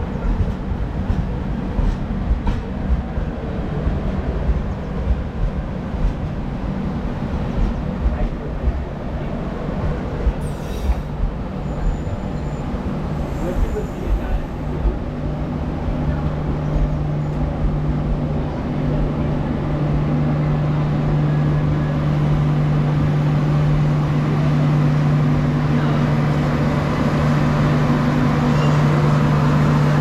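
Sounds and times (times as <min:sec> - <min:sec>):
locomotive engine humming: 0:00.0 - 0:30.0.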